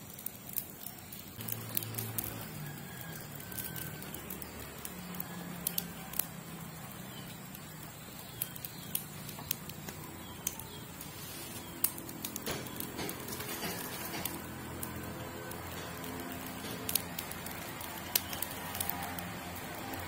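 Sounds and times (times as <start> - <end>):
sharp crackles: 0.0 - 20.0
wire hoops clicking: 0.0 - 20.0.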